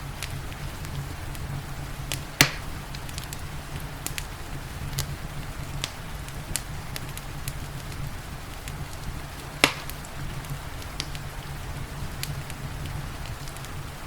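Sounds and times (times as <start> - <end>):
rain hiss: 0.0 - 14.0
wood fire crackling: 0.0 - 14.0.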